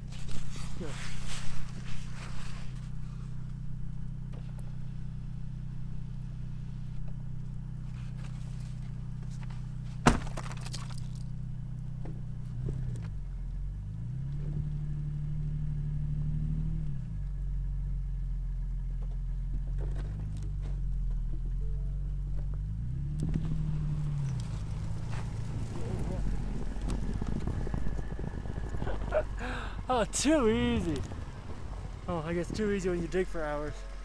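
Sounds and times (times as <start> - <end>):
van engine idling and revving: 0.0 - 34.0.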